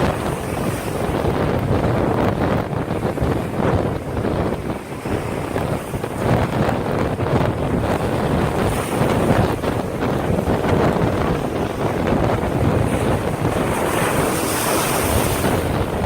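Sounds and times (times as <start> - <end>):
heavy surf breaking: 0.0 - 16.0
wind buffeting microphone: 0.0 - 16.0.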